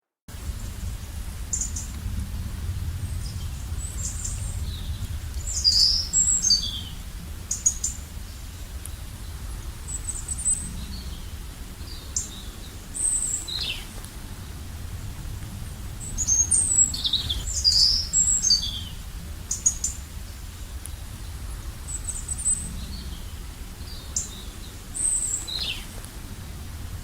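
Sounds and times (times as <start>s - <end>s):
steady low rumble: 0.3s - 27.0s
songbirds chirping: 0.4s - 27.0s.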